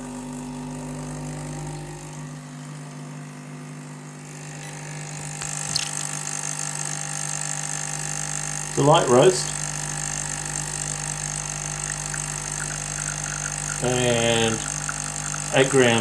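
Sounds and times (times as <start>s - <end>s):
espresso machine pump humming: 0.0s - 16.0s.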